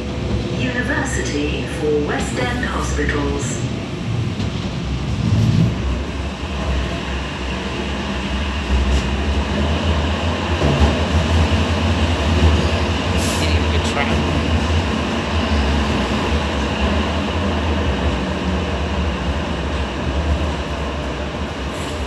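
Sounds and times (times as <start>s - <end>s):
tram low rumble: 0.0s - 22.0s.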